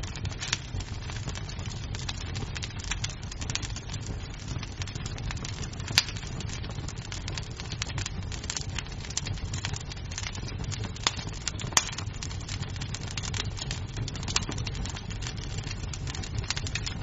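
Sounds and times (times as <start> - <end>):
low fire rumble: 0.0 - 17.0
small fire crackles: 0.0 - 17.0.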